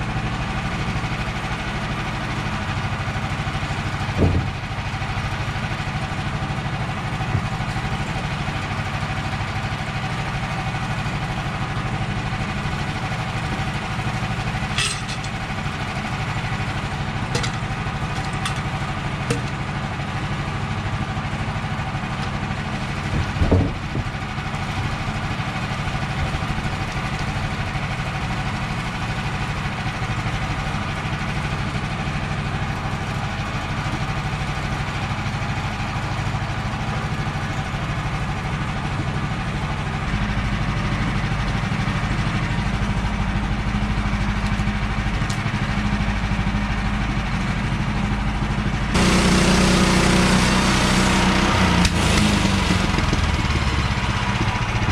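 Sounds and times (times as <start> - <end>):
sawmill gas engine running: 0.0 - 54.9.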